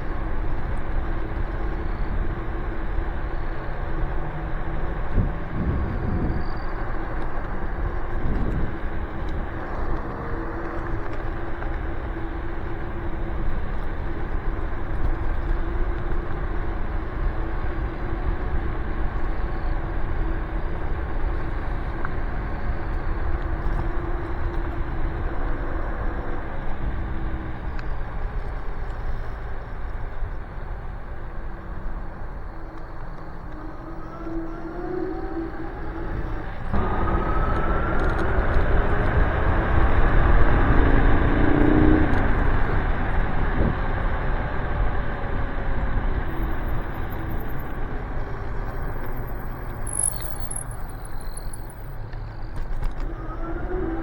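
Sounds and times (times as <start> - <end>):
electric scooter motor hum: 0.0 - 54.0
wind rushing on microphone: 0.0 - 54.0.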